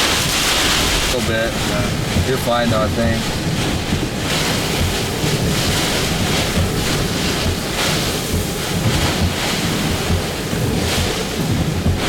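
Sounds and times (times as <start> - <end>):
gusting wind: 0.0 - 12.0
wind buffeting microphone: 0.0 - 12.0.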